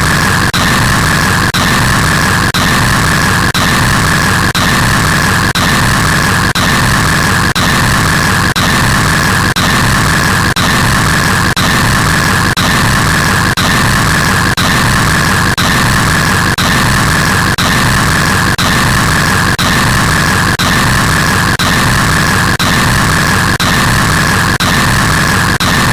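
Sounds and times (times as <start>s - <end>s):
harsh static white noise: 0.0s - 25.9s.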